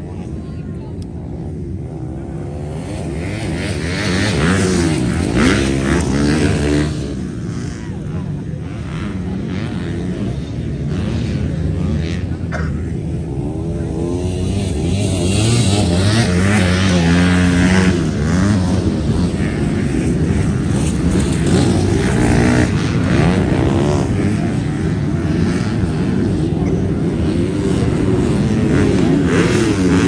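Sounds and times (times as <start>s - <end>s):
motocross engines revving: 0.0s - 30.0s.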